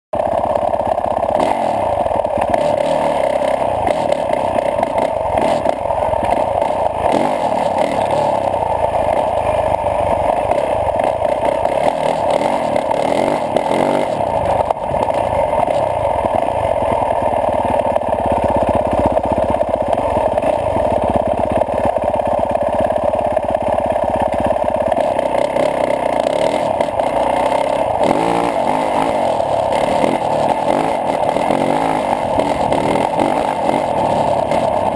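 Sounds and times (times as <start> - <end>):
dirt bike engine running: 0.2 - 34.9.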